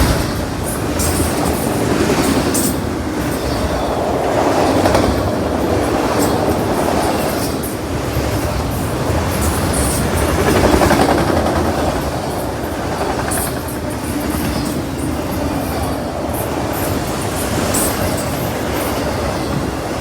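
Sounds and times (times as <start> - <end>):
freight train rumble: 0.0 - 20.0
train wheels clacking on rails: 0.0 - 20.0.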